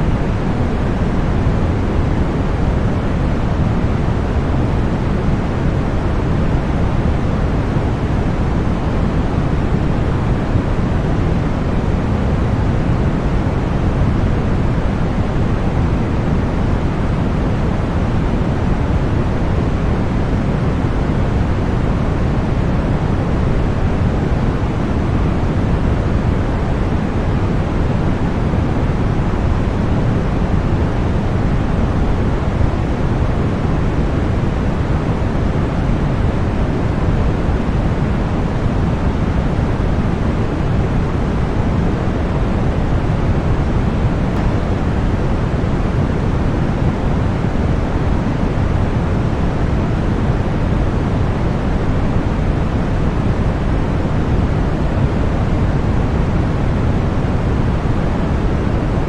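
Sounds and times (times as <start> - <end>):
deep white noise: 0.0 - 59.0.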